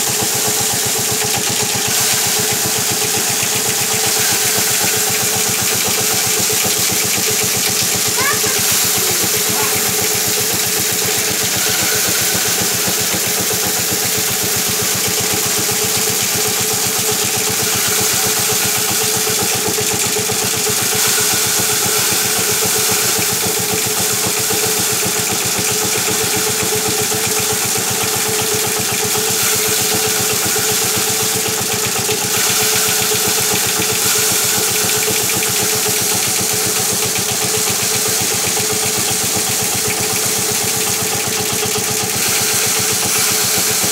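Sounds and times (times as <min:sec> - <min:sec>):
thresher drum humming and rattling: 0:00.0 - 0:43.9.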